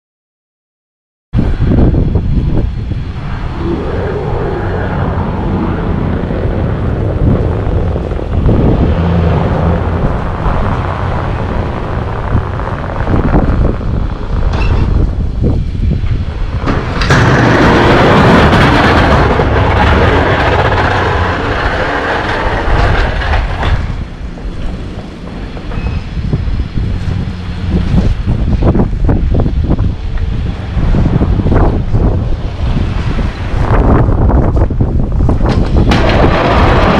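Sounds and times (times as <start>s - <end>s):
rushing noise: 1.4s - 36.9s
vehicle engine running: 3.1s - 33.1s.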